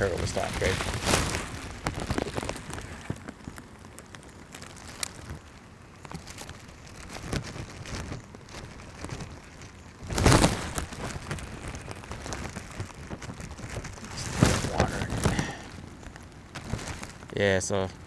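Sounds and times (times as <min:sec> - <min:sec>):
rain falling: 0:00.0 - 0:17.4.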